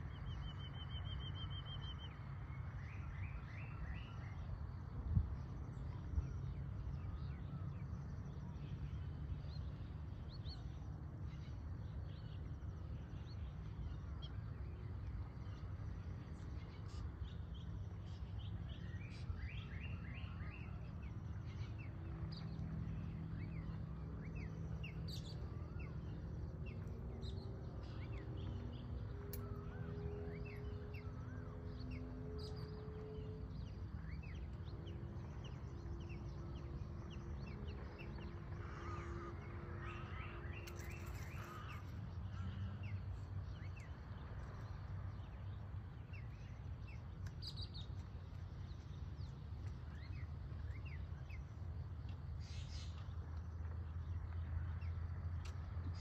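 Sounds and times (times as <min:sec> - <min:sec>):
faint low drone: 0:00.0 - 0:56.0
birds chirping: 0:05.7 - 0:56.0.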